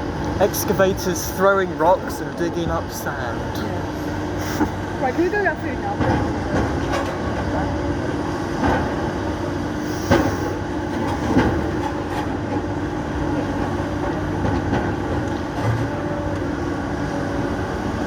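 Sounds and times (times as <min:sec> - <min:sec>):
excavator diesel engines running: 0:00.0 - 0:18.0.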